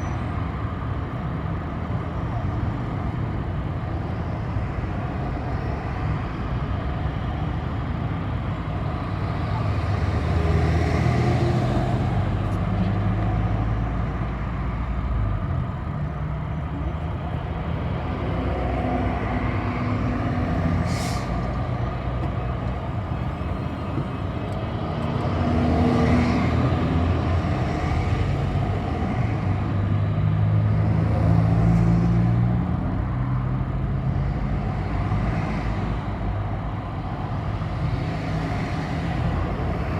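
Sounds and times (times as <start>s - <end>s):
bus engine running: 0.0s - 39.9s.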